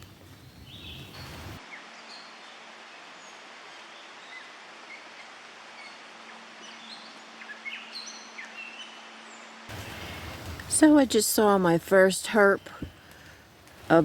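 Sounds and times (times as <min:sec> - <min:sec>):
songbirds singing: 0:00.0 - 0:02.6, 0:03.2 - 0:14.0
steady background hiss: 0:00.0 - 0:14.0.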